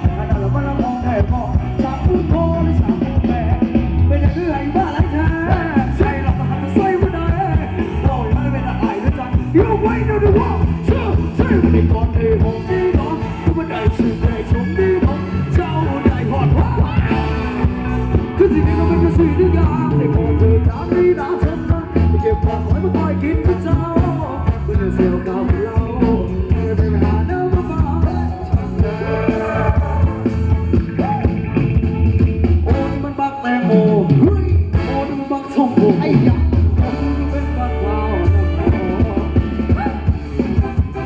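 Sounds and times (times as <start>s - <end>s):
dance band with steady beat: 0.0s - 41.0s
person singing: 0.0s - 41.0s.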